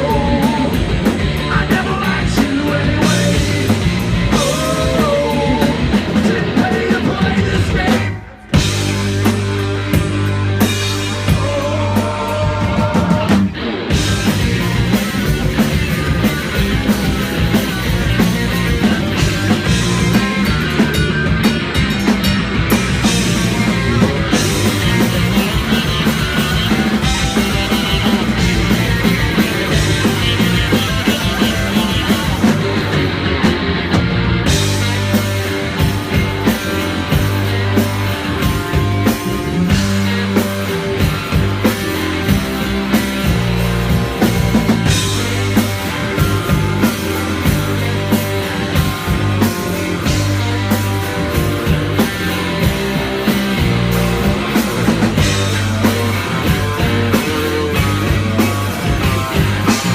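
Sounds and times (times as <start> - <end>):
drum kit: 0.0 - 59.9
guitar: 0.0 - 59.9
live rock band: 0.0 - 59.9.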